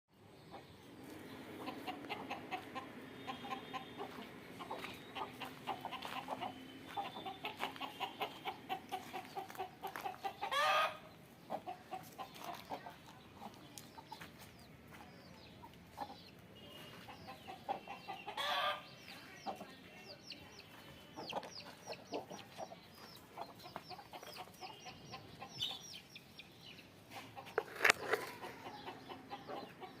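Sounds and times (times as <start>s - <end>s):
chickens clucking: 0.2s - 30.0s.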